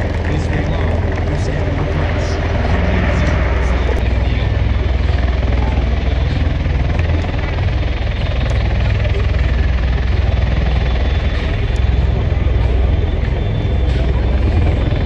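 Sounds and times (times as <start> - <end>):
aircraft rotors and engines running: 0.0 - 15.0.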